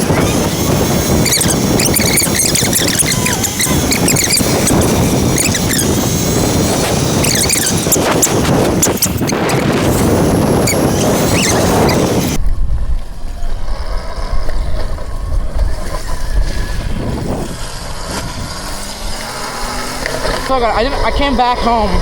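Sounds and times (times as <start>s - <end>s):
road and tyre noise: 0.0s - 22.0s
wind buffeting microphone: 0.0s - 22.0s.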